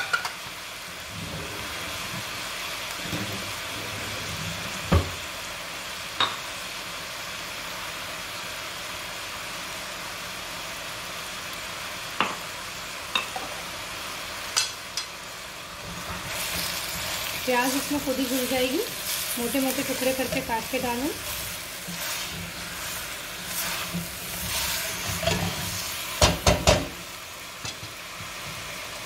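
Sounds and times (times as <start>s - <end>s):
meat and onions sizzling: 0.0s - 29.0s.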